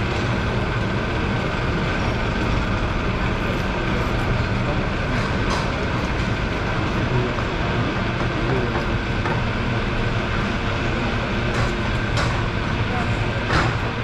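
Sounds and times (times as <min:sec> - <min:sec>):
steel wheels on rail: 0:00.0 - 0:14.0.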